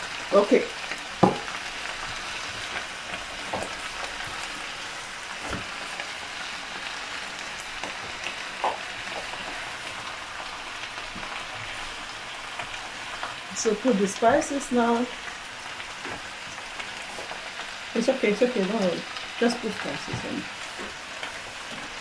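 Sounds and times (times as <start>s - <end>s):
cabbage sizzling in a pan: 0.0s - 22.0s.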